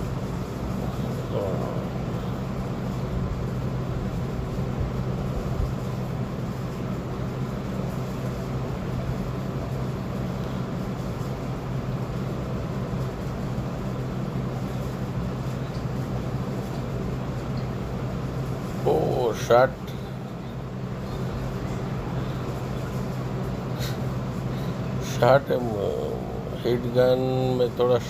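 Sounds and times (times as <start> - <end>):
heat gun blower humming: 0.0 - 28.0.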